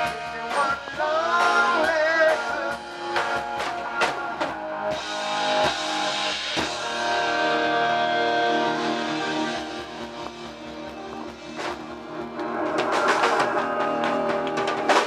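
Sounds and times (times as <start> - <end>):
rock band playing: 0.0 - 15.0
drum kit hits: 1.4 - 15.0.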